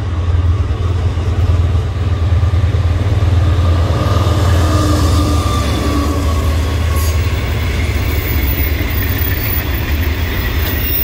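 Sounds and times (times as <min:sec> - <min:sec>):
diesel locomotive engine: 0:00.0 - 0:11.0
train wagons rumbling on rails: 0:00.0 - 0:11.0.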